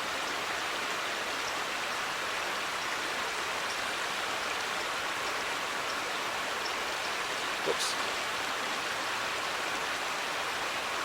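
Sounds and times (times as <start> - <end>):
creek water flowing: 0.0 - 11.0.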